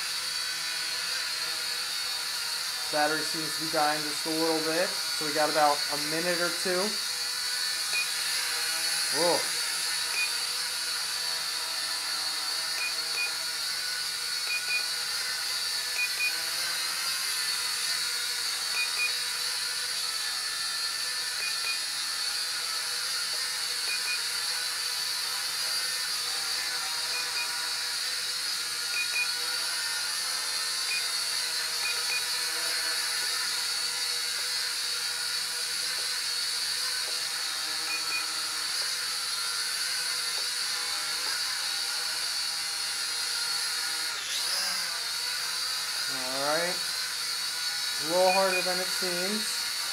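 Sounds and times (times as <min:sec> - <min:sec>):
drone propellers whining: 0:00.0 - 0:49.9.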